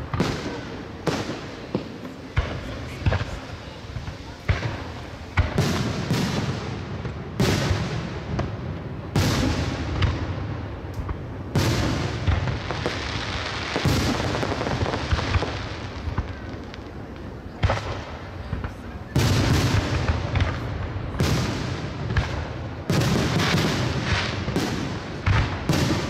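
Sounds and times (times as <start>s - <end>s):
firework crackle and hiss: 0.0s - 26.0s
firework shells booming: 0.0s - 26.0s
smaller firework bangs: 0.0s - 26.0s.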